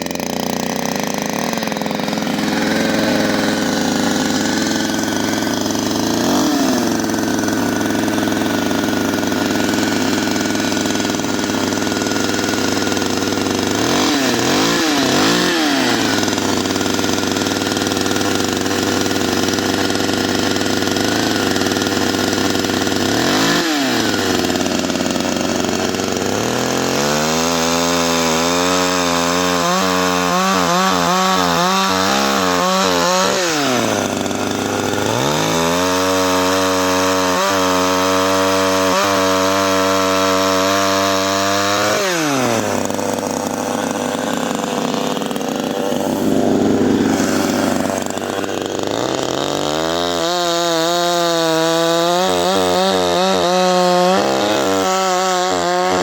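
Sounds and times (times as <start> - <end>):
chainsaw engine idling: 0.0 - 56.0
chainsaw throttle blips: 0.0 - 56.0.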